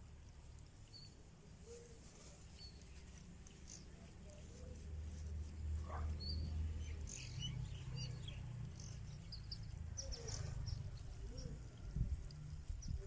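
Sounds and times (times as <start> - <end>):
faint bird chirps: 0.8 - 5.3, 5.9 - 13.0.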